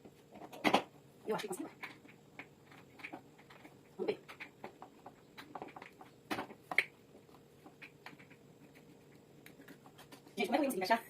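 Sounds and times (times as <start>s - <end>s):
plastic parts clicking and scraping: 0.3s - 10.4s.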